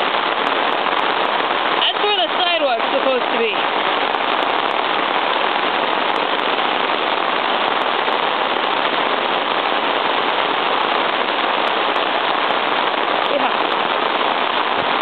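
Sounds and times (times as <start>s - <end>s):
heavy rain splashing on water: 0.0s - 15.0s.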